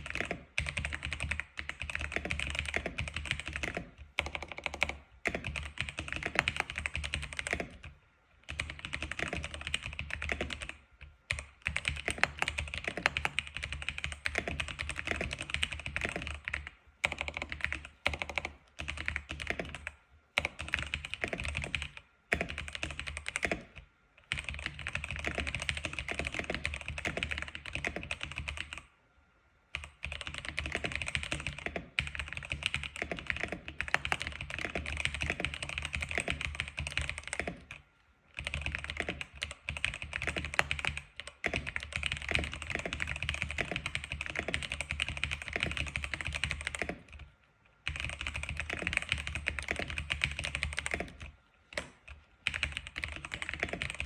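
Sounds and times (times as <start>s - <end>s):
fast typing on a keyboard: 0.0s - 28.9s, 29.7s - 37.8s, 38.4s - 54.0s.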